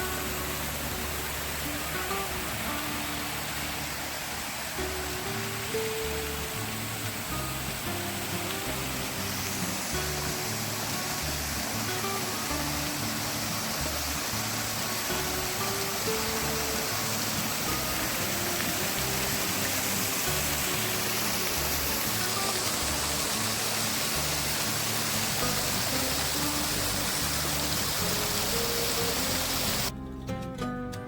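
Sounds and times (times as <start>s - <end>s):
stream rushing: 0.0s - 29.9s
background music: 0.0s - 31.0s.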